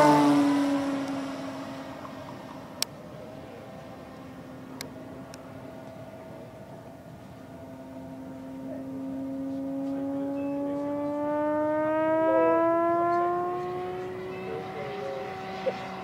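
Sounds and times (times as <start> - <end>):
model plane propeller humming: 0.0 - 16.0.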